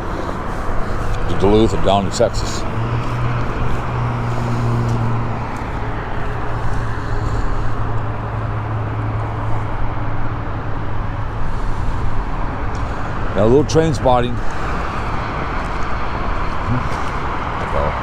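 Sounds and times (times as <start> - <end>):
freeway traffic noise: 0.0 - 18.0.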